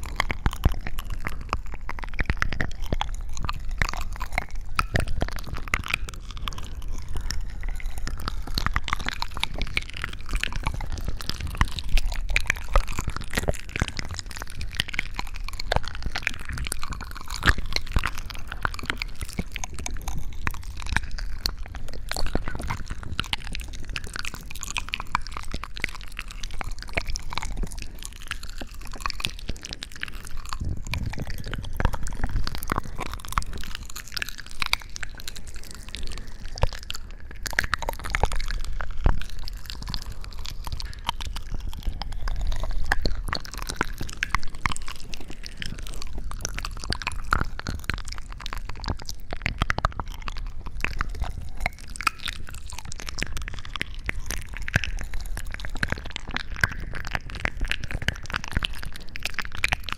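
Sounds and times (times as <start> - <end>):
wet crackling and crunching: 0.0 - 59.9.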